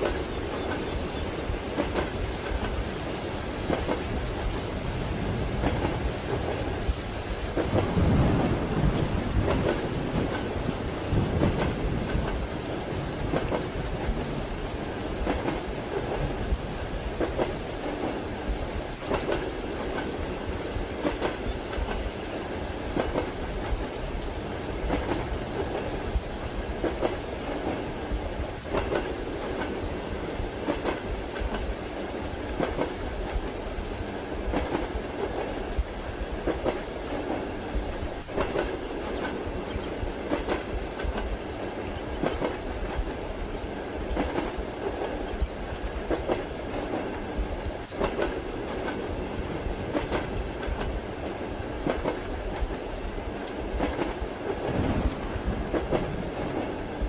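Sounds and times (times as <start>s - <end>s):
train rumble: 0.0s - 57.0s
wheels clickety-clack over rail joints: 0.0s - 57.0s.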